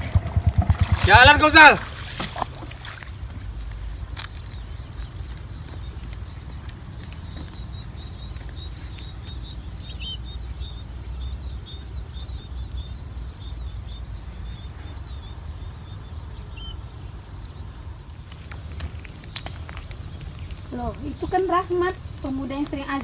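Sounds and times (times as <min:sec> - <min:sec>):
insects shrilling drone: 0:00.0 - 0:23.0.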